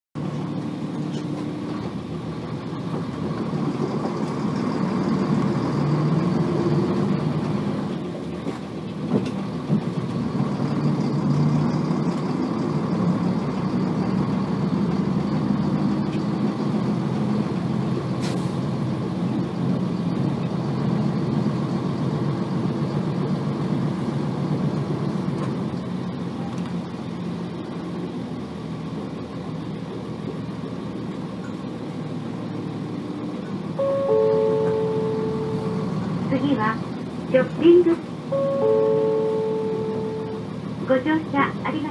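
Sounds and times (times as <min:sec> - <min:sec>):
bus diesel engine running: 0:00.2 - 0:41.9.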